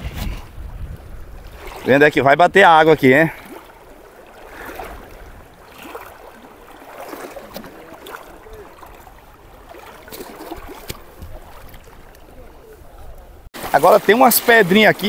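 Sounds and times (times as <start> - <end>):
water splashing around wading legs: 0.3 - 15.0.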